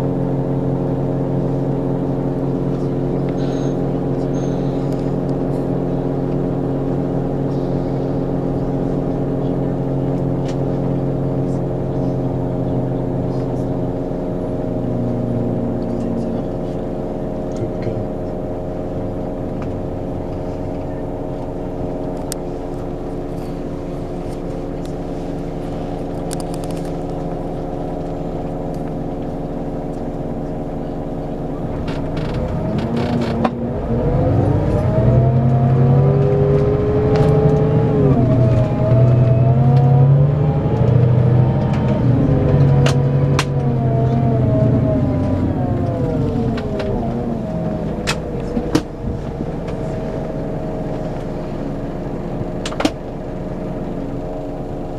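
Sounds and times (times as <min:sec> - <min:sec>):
diesel coach engine revving: 0:00.0 - 0:54.9.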